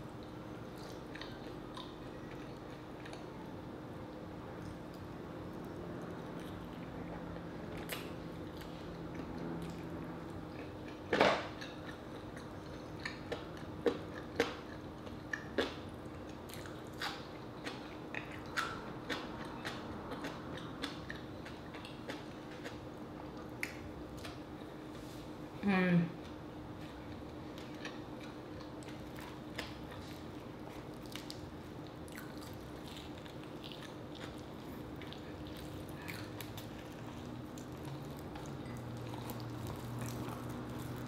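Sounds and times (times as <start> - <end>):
person chewing food: 0.0 - 3.4, 4.6 - 24.9, 26.2 - 41.0.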